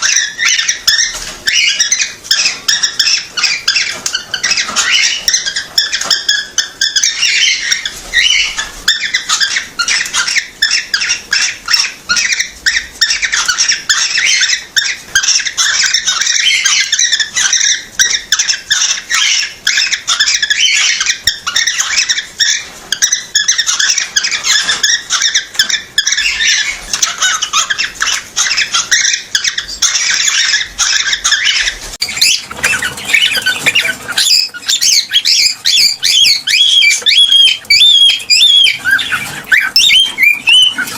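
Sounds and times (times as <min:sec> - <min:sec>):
cockatiel chattering and chirping: 0:00.0 - 0:40.9.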